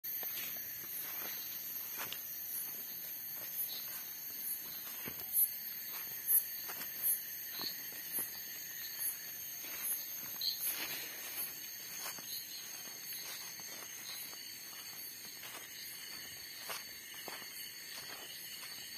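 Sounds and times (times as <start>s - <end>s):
footsteps through undergrowth: 0.0s - 18.9s
insect chirps: 0.0s - 18.9s
insects buzzing: 0.1s - 18.9s.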